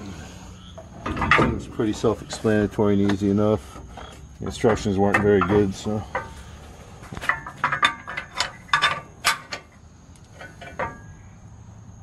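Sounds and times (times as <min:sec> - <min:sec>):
metal bolts clicking and clinking: 0:00.8 - 0:03.4, 0:04.0 - 0:11.2.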